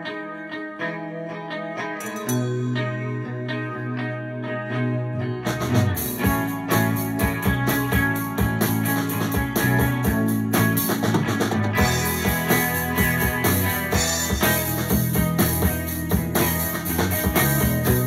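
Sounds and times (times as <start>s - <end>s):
rock music with guitars and drums: 0.0s - 18.0s.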